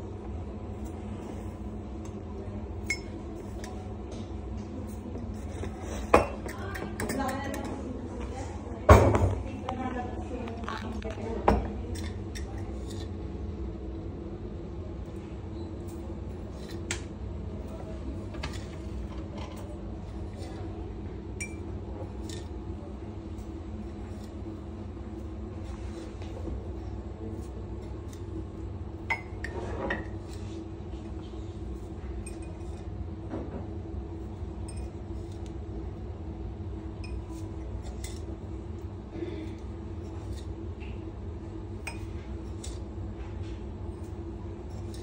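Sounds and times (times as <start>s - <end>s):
low mechanical hum: 0.0s - 45.0s.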